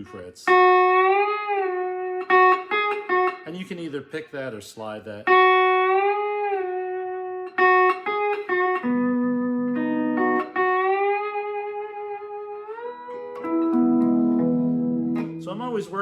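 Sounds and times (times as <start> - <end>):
lap steel guitar sliding notes: 0.5 - 3.6, 5.3 - 16.0.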